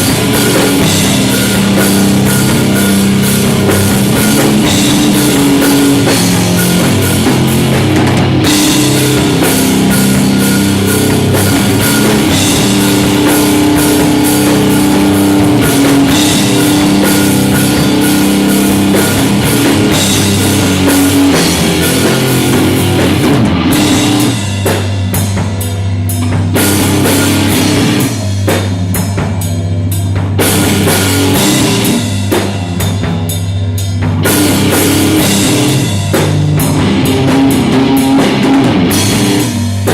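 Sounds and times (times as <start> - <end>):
distorted electric guitar: 0.0 - 39.9
drum kit: 0.0 - 39.9
live rock band playing: 0.0 - 39.9.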